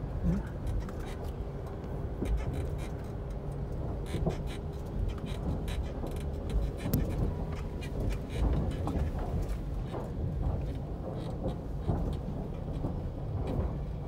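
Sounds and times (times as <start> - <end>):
car tyres rumbling over wooden planks: 0.0 - 14.0.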